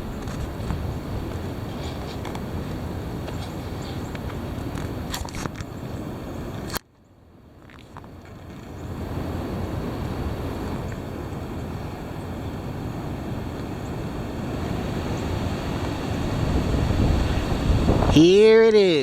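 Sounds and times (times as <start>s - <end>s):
heavy wind buffeting microphone: 0.0s - 6.8s, 8.0s - 19.0s.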